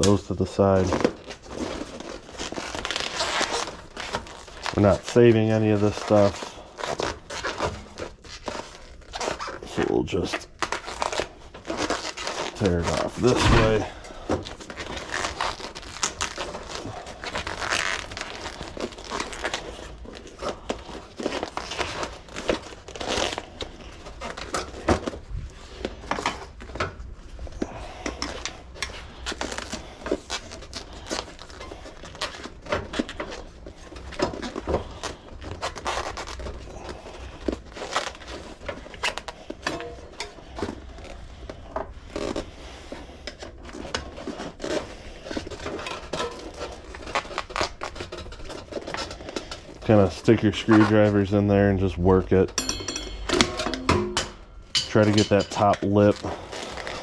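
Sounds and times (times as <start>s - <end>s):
bicycle tire crinkling and tearing: 0.0s - 57.0s.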